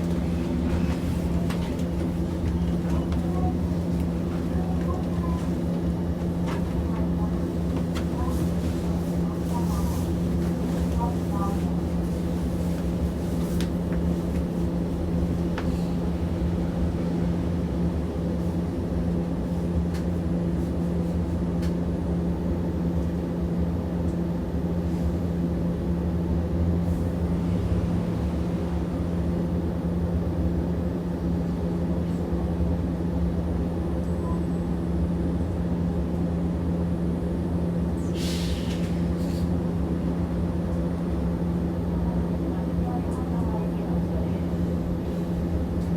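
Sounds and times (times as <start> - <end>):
streetcar cabin hum and rumble: 0.0 - 45.9.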